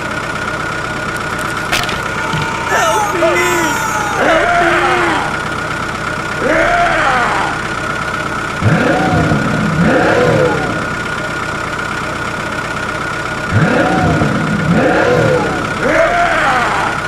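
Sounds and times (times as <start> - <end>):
engine idling and revving: 0.0 - 2.4, 4.2 - 17.0.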